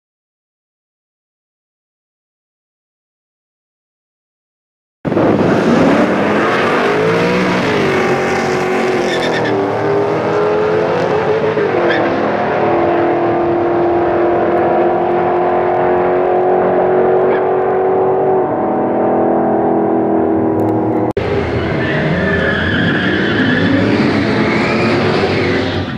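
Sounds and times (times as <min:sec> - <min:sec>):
drag racing car engines: 0:05.1 - 0:25.9.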